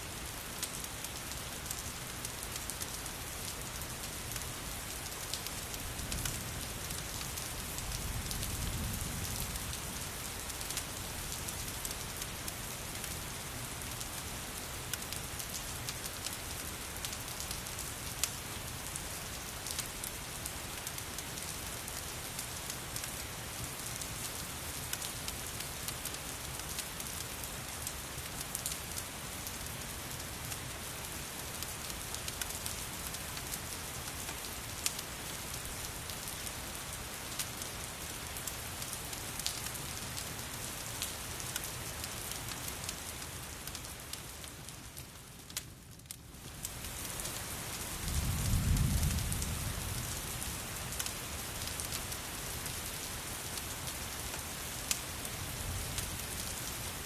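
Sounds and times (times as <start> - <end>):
steady rain: 0.0 - 57.0
fire crackling: 0.1 - 57.0.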